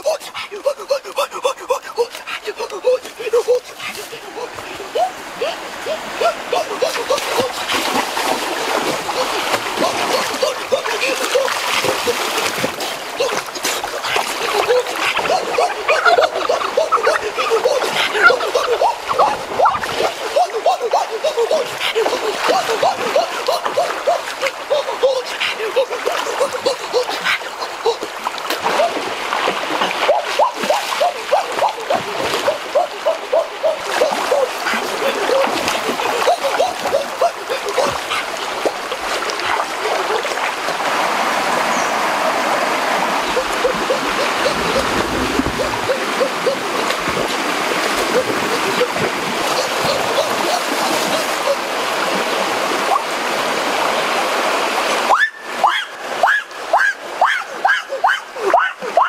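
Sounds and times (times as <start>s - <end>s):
person swimming in river water: 0.0s - 59.0s.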